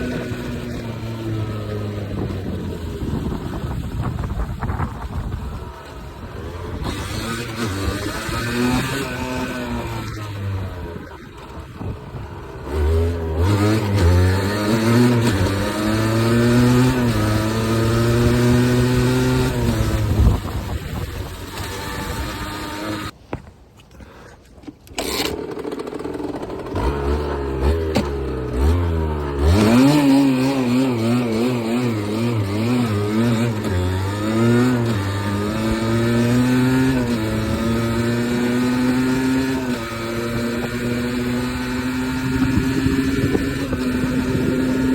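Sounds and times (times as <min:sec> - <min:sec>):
two-stroke motorcycle engine revving: 0:00.0 - 0:23.2, 0:24.9 - 0:44.9.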